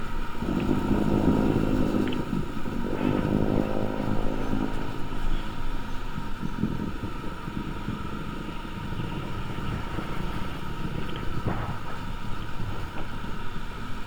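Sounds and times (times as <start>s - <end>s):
faint constant whine: 0.0s - 14.0s
motorcycle engine rumble: 0.0s - 14.0s
wind buffeting microphone: 0.0s - 14.0s.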